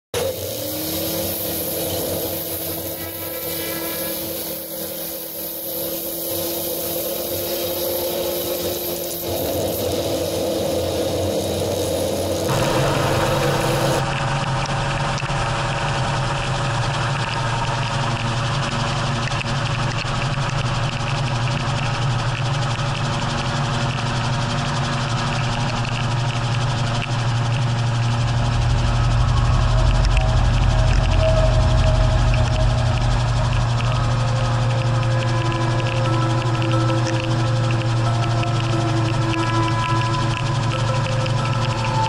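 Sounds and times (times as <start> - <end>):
gyrocopter engine and propeller: 0.1 - 42.0.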